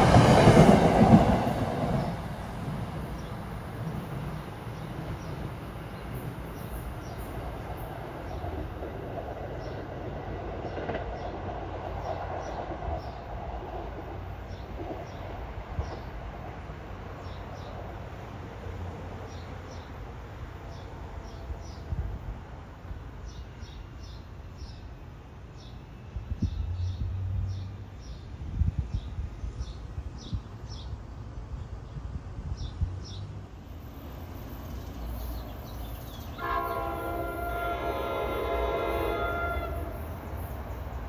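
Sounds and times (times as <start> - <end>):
electric train rumbling on track: 0.0 - 41.0.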